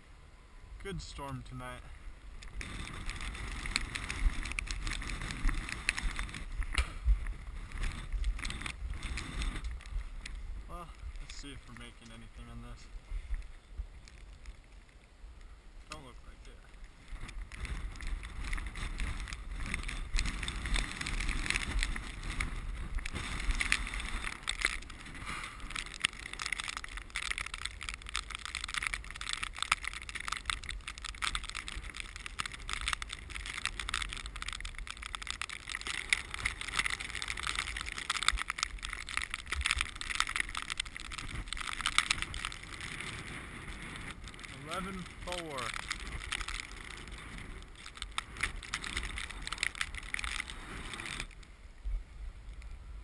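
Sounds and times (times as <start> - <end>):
strong wind buffeting microphone: 2.0 - 14.7, 16.8 - 53.0.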